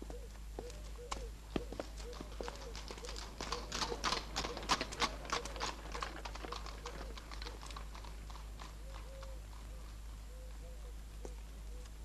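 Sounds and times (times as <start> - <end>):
horse hoofbeats on hard ground: 0.0 - 9.7.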